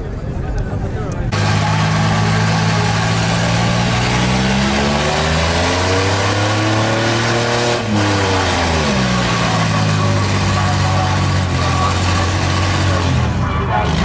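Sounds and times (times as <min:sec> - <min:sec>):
engine revving high: 0:01.3 - 0:14.0.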